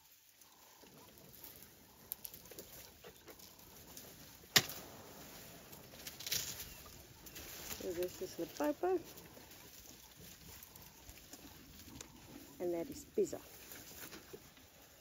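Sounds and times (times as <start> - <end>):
faint rustling: 0.4 - 15.0.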